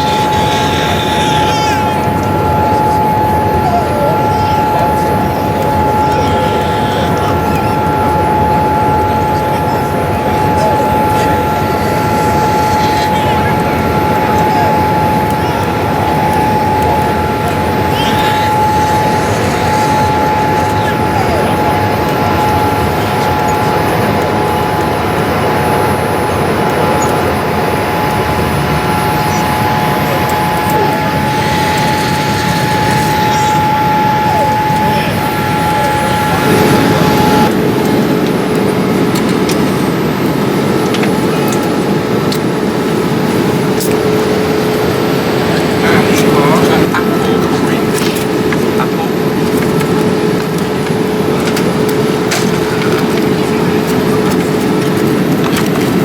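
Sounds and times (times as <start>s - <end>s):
constant hum tone: 0.0s - 56.0s
jet engines and airflow rushing: 0.0s - 56.0s
steady high whine: 0.0s - 56.0s.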